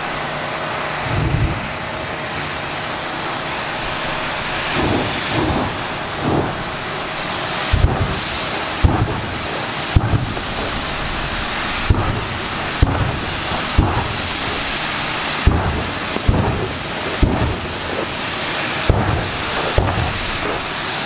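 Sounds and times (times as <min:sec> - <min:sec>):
jet turbine roar: 0:00.0 - 0:21.0
afterburner booms: 0:01.0 - 0:21.0.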